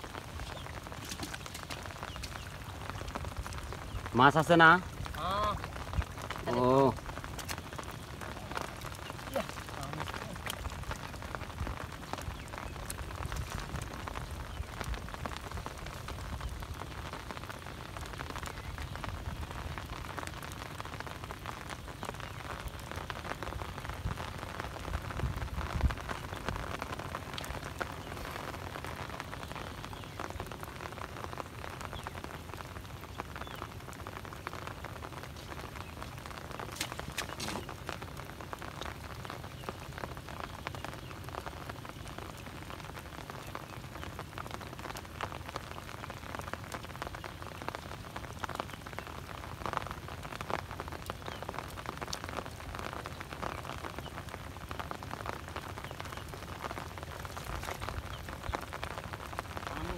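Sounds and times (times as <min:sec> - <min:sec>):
rain pattering on shallow water: 0:00.0 - 0:59.9.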